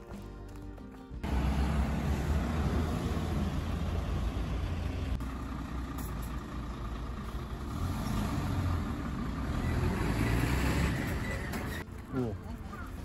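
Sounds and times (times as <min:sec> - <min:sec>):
road traffic rumble: 0:01.2 - 0:13.0.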